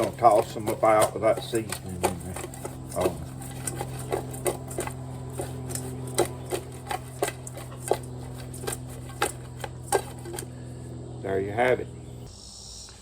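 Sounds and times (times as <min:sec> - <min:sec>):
chicken wings clattering in pan: 0:00.0 - 0:10.6.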